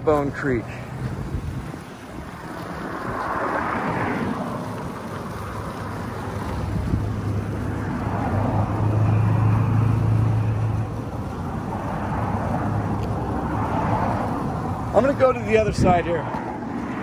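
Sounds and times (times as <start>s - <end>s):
steady traffic rush: 0.0s - 17.0s
vehicle passing: 0.0s - 17.0s.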